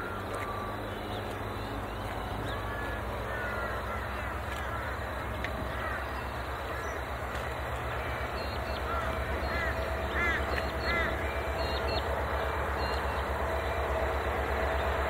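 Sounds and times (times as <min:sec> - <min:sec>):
birds chirping: 0:00.0 - 0:15.0
diesel locomotive engine throbbing: 0:00.0 - 0:15.0.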